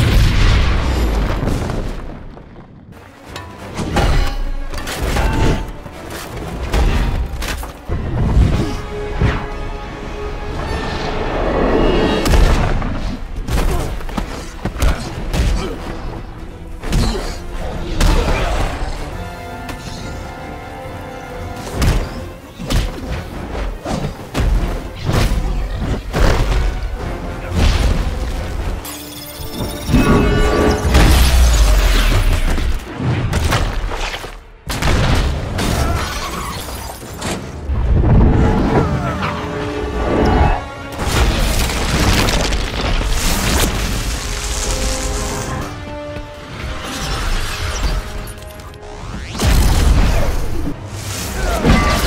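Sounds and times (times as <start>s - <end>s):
dramatic score music: 0.0s - 52.0s.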